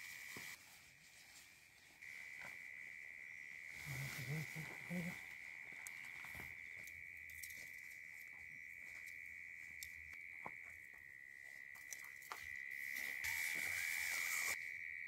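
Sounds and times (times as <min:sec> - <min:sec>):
insects trilling: 0:00.0 - 0:00.7, 0:01.8 - 0:15.0.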